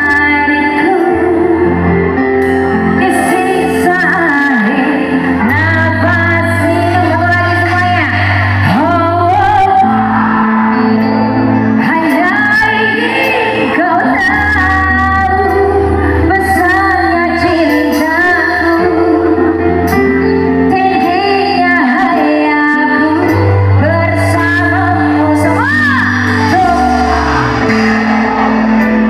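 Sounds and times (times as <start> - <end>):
live band music with singer: 0.0 - 29.0.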